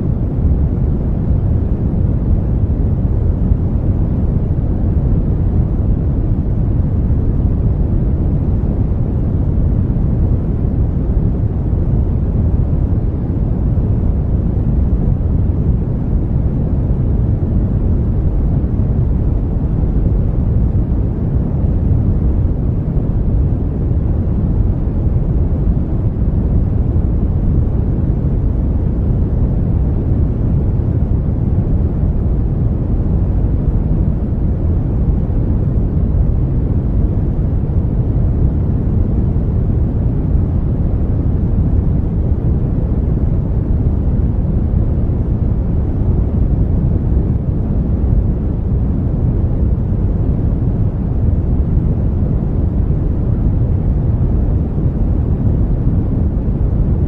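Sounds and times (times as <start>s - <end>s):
brown noise rumbling hiss: 0.0s - 57.0s.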